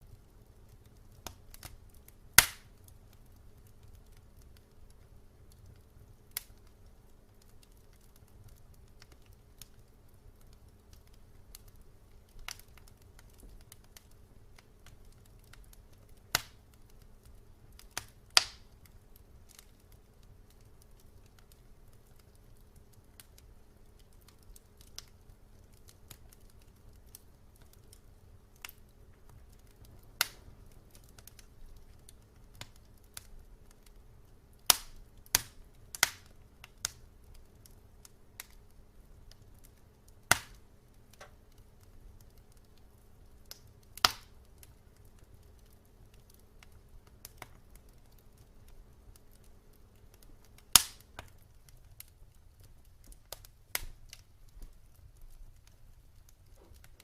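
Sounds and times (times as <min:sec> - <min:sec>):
low fire rumble: 0:00.0 - 0:57.0
wood fire crackling: 0:00.0 - 0:57.0.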